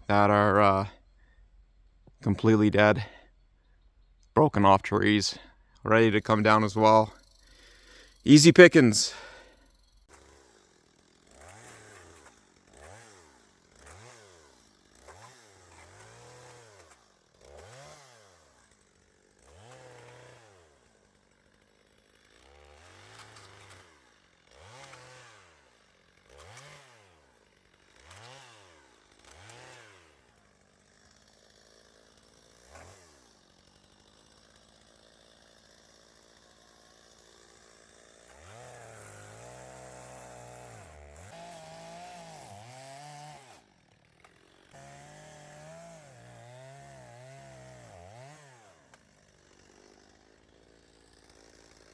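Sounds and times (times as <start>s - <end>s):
faint chainsaw revving: 0.0s - 51.9s.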